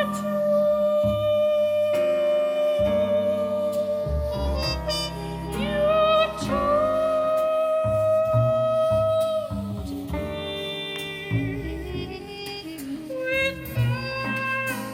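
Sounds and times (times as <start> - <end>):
woman singing with vibrato: 0.0 - 14.9.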